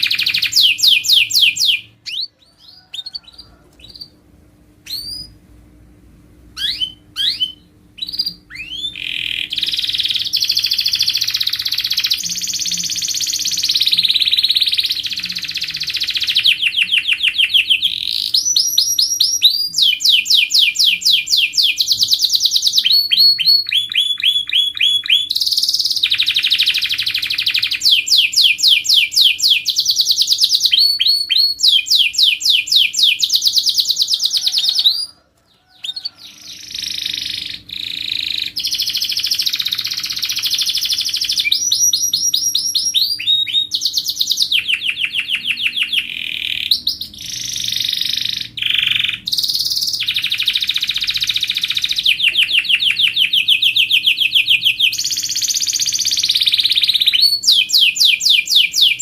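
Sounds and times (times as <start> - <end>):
canary singing trills: 0.0 - 4.2, 4.8 - 5.4, 6.5 - 59.0.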